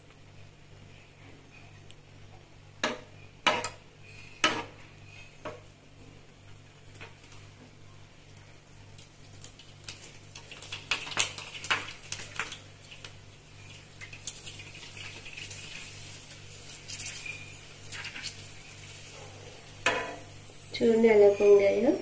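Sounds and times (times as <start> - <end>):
dough deep-frying in hot oil: 0.0 - 22.0.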